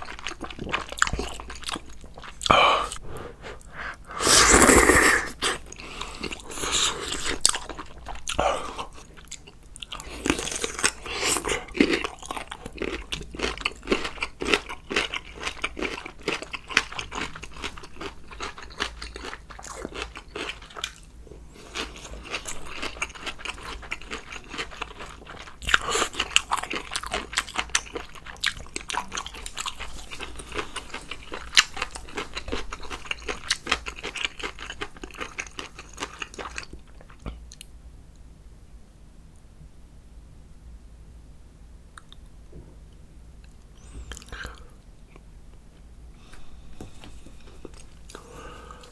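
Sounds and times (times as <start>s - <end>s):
person chewing crunchy food: 0.0s - 37.7s, 43.8s - 45.3s, 46.2s - 48.9s.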